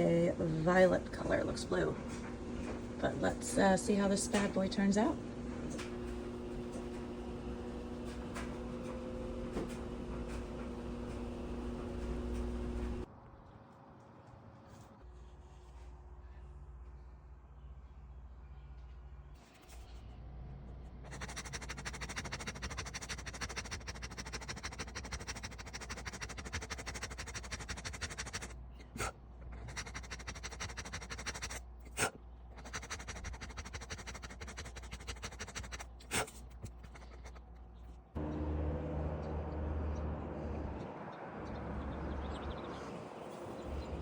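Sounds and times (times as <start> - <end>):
low humming machine: 0.0 - 13.1, 16.2 - 44.0.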